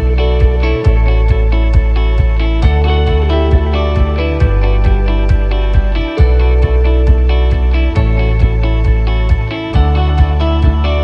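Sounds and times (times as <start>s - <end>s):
guitar-led music with beat: 0.0s - 11.0s.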